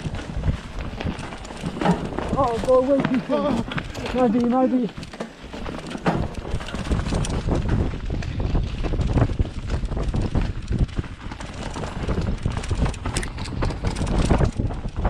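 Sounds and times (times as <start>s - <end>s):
bike knocking and rattling: 0.0s - 15.0s
tyres rolling through dry leaves: 0.0s - 15.0s
wind buffeting microphone: 0.0s - 15.0s.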